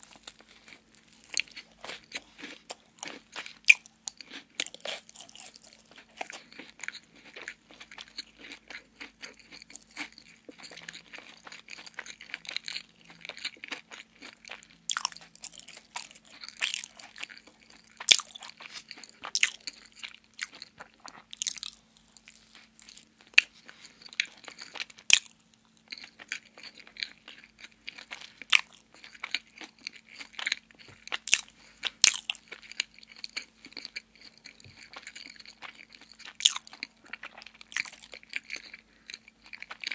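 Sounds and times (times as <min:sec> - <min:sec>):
chewing donut: 0:00.0 - 0:39.9.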